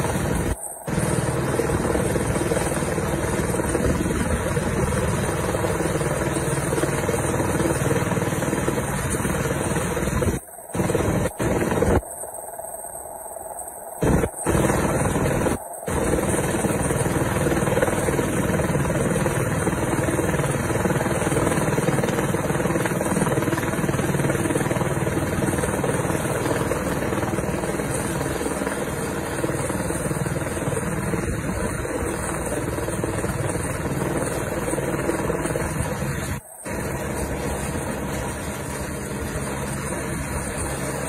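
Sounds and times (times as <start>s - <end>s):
helicopter hovering: 0.0s - 41.0s.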